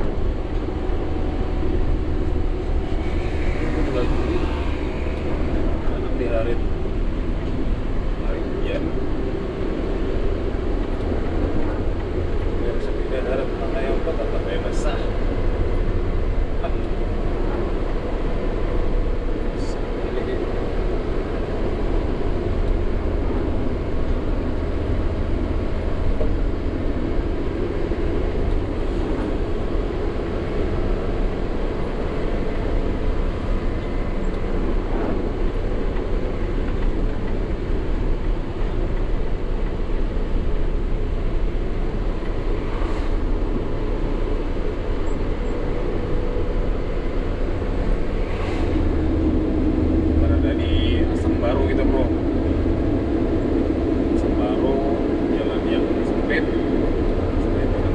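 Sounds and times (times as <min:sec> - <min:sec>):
road noise: 0:00.0 - 0:57.9
truck engine drone: 0:00.0 - 0:57.9.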